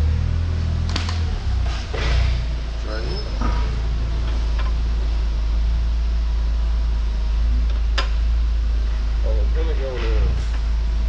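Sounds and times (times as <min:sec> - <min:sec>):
shop background hum: 0:00.0 - 0:11.0.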